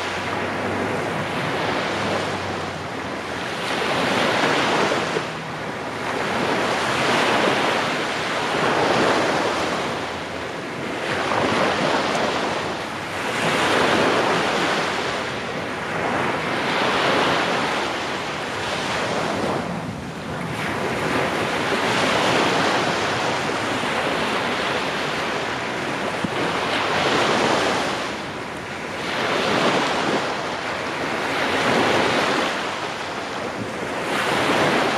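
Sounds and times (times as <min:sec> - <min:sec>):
small waves breaking on beach: 0:00.0 - 0:34.9.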